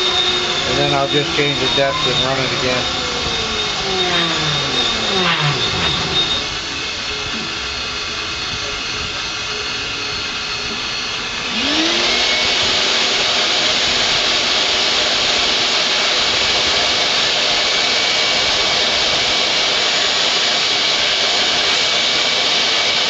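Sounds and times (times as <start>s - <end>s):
milling machine cutting aluminum: 0.0s - 23.0s
rising whine: 0.0s - 23.0s.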